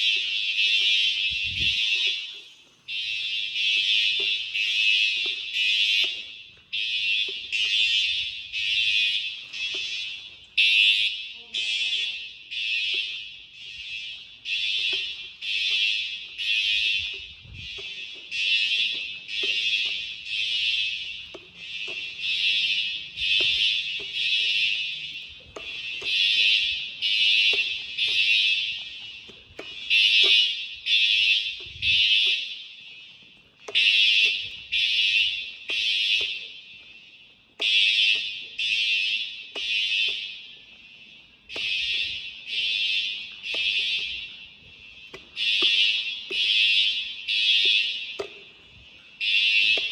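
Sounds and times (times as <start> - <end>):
fire alarm horn pulses: 0.0 - 49.9.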